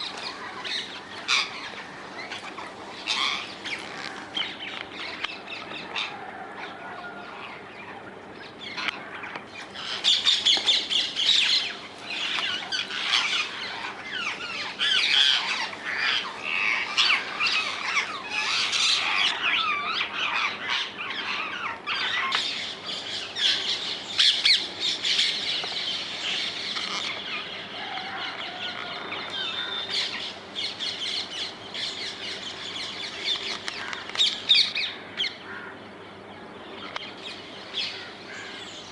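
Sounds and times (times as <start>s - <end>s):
parakeets screeching: 0.0s - 8.0s, 8.6s - 35.7s.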